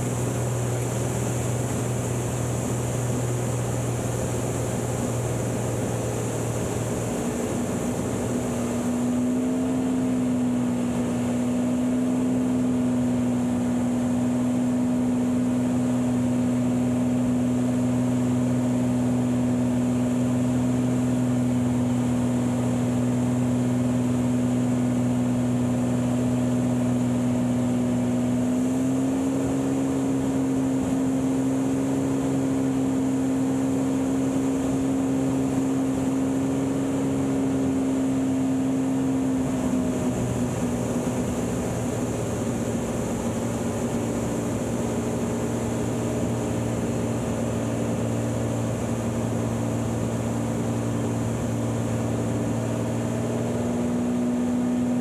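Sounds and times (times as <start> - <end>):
aircraft engine and propeller drone: 0.0 - 55.0.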